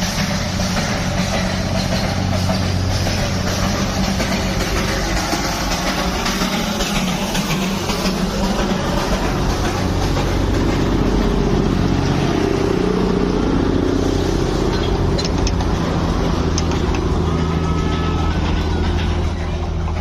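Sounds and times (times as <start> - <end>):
locomotive engine droning: 0.0 - 20.0.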